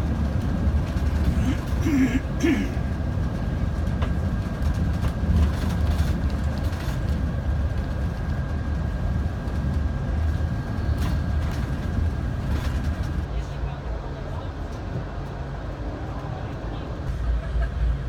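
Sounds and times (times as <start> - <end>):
vehicle rumble from inside: 0.0 - 18.0.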